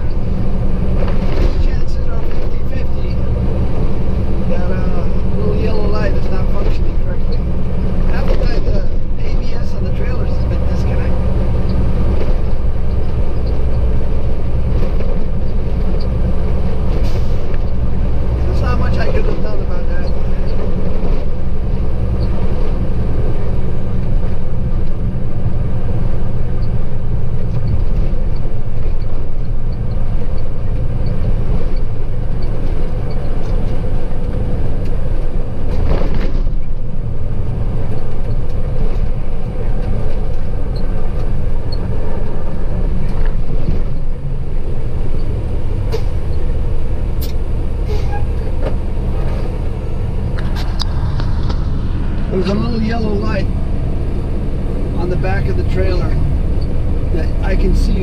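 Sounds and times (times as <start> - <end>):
diesel engine drone: 0.0 - 58.0
road noise: 0.0 - 58.0.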